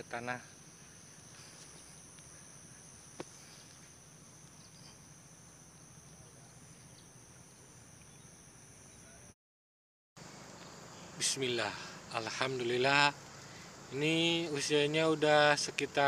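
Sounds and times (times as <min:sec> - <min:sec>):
insect chirring: 0:00.0 - 0:09.3, 0:10.2 - 0:16.0.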